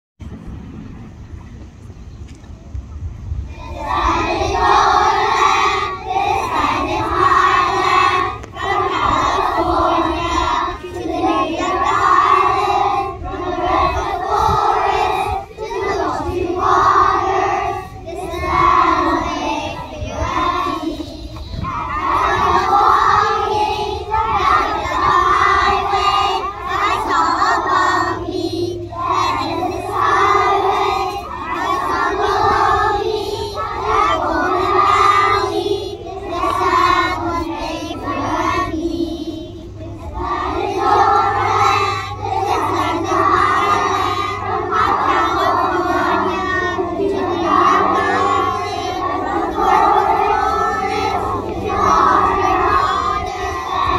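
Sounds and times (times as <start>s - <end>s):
children singing in unison: 3.5s - 53.9s.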